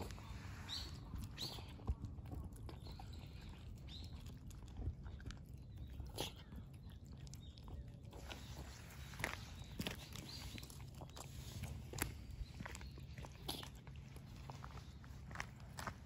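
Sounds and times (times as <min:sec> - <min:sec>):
cats chewing and crunching food: 0:00.0 - 0:16.0
low steady rumble: 0:00.0 - 0:16.0.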